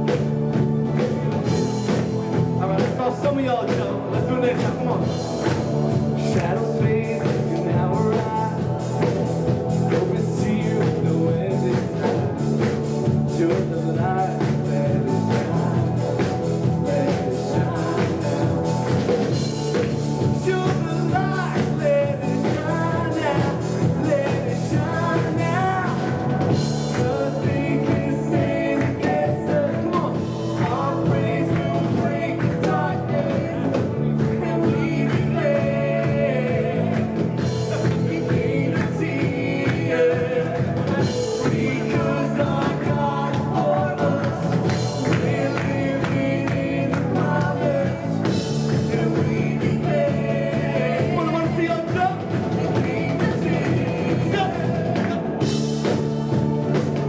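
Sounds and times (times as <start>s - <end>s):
electric guitar: 0.0s - 57.0s
person singing: 0.0s - 57.0s
steady drum beat: 0.0s - 57.0s.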